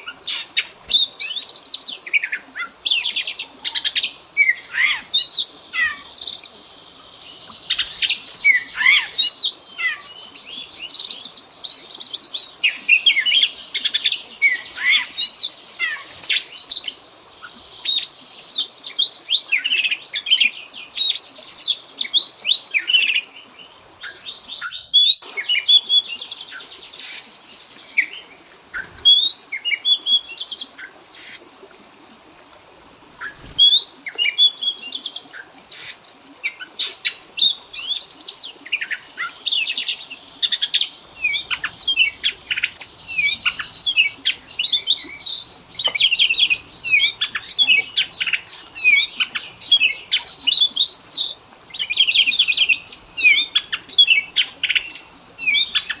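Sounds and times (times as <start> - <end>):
bird singing varied song: 0.0 - 32.0, 33.1 - 56.0.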